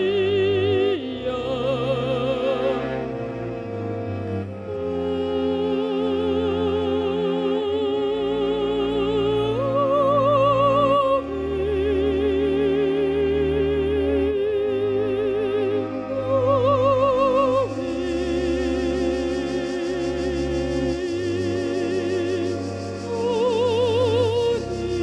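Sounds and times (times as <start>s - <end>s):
woman singing opera: 0.0s - 3.0s, 4.8s - 25.0s
low instrumental accompaniment: 0.0s - 25.0s.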